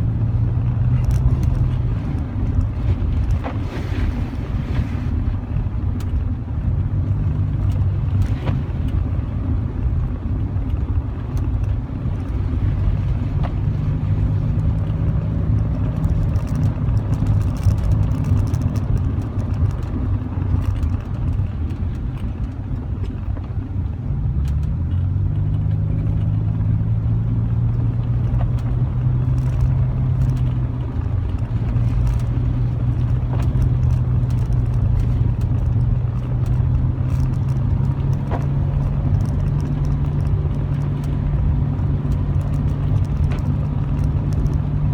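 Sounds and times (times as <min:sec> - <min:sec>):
car engine under load: 0:00.0 - 0:44.9
road noise: 0:00.0 - 0:44.9.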